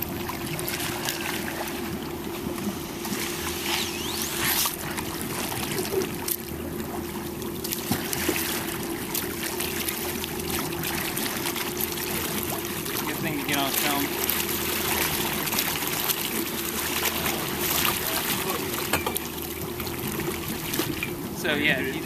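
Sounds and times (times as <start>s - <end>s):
steady low hum: 0.0s - 22.0s
water splashing and trickling: 0.0s - 22.0s.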